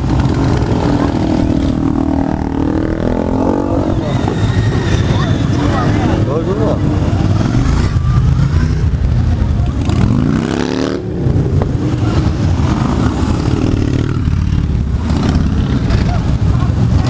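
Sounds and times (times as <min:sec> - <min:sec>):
motorcycle revving: 0:00.0 - 0:17.0
motorcycles riding past: 0:00.0 - 0:17.0.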